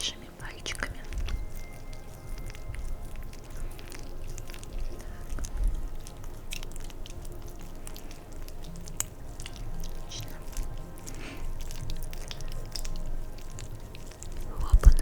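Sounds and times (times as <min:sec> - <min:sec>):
oiled hands massaging skin: 0:00.0 - 0:15.0.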